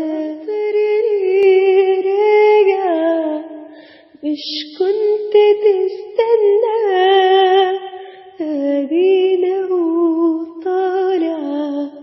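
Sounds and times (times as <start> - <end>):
woman singing a slow lament: 0.0 - 12.0.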